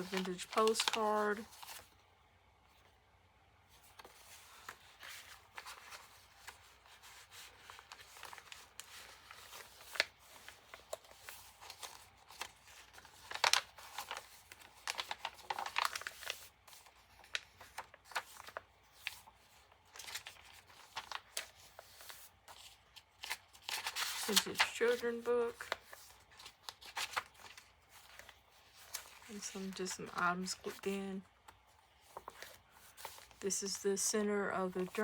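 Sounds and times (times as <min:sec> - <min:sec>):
paper pages rustling: 0:00.0 - 0:02.1, 0:03.7 - 0:33.6.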